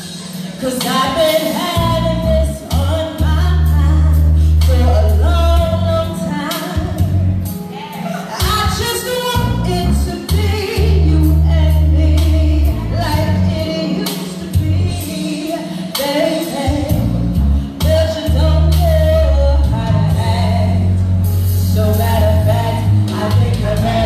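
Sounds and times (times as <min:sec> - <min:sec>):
instrumental backing with deep bass: 0:00.0 - 0:24.0
woman singing into microphone: 0:00.0 - 0:24.0.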